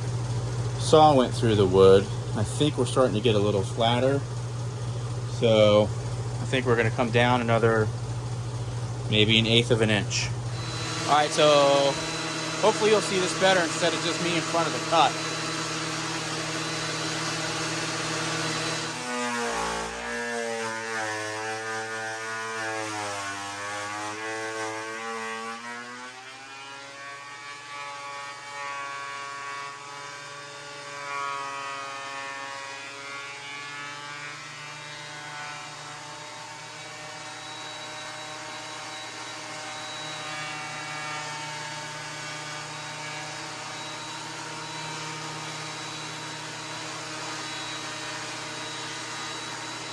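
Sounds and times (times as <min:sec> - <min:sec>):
thickness planer cutting wood: 0:00.8 - 0:04.2, 0:05.3 - 0:07.9, 0:09.1 - 0:49.9.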